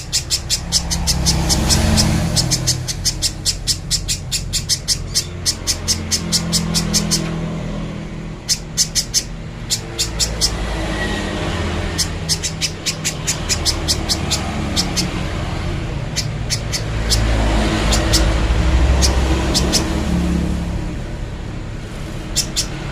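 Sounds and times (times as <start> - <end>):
bird high chipping calls: 0.0 - 21.0, 21.9 - 22.9.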